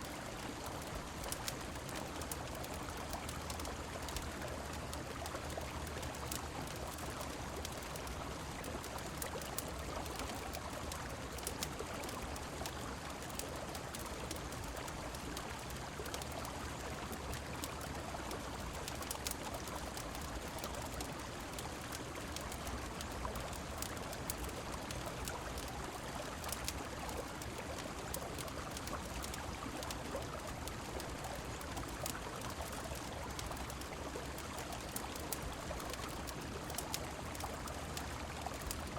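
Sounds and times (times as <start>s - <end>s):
faint clicks and crackles: 0.0s - 38.9s
falling rain: 0.0s - 38.9s.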